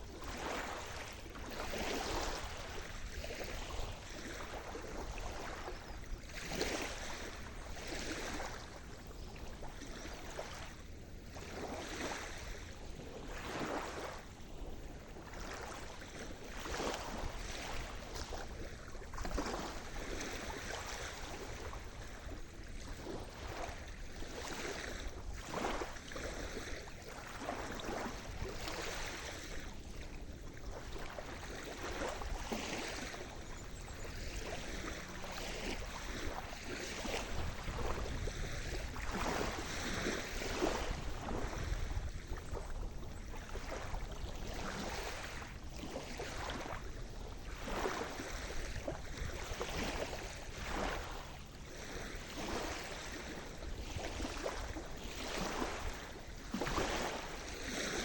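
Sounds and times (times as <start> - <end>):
low rumble of sea: 0.0 - 58.0
small waves washing in: 0.0 - 58.0.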